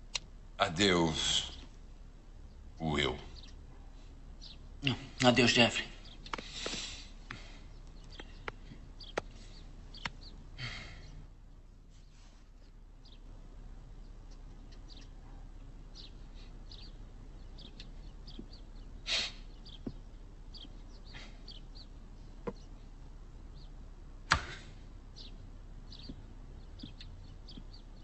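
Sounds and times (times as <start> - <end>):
faint bird chirps: 0.1 - 28.0.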